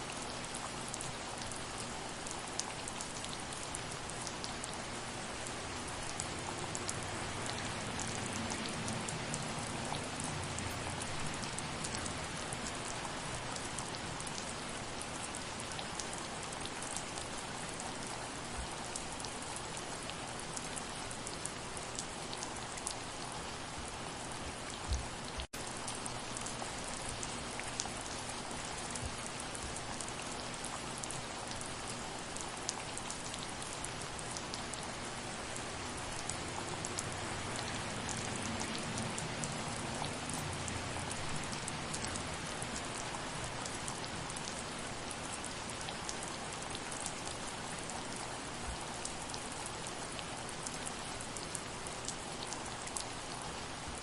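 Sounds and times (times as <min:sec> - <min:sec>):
steady soft rain: 0:00.0 - 0:54.0.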